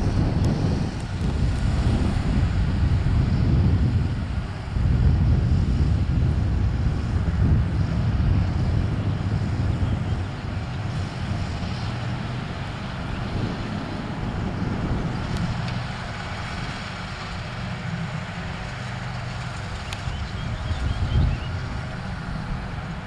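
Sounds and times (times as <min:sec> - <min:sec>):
tractor diesel engine rumbling: 0:00.0 - 0:23.0.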